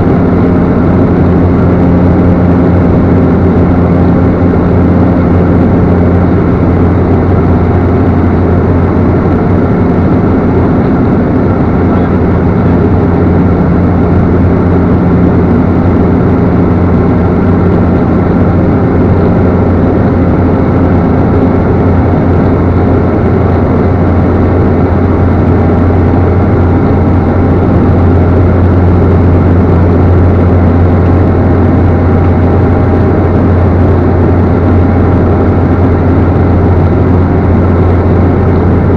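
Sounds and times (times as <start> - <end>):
turboprop engine drone: 0.0 - 38.9.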